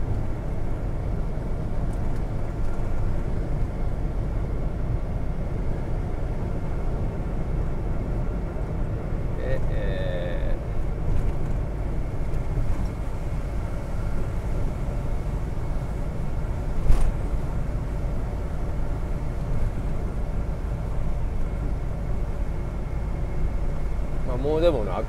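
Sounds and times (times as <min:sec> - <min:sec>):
tyre and engine rumble: 0:00.0 - 0:25.0.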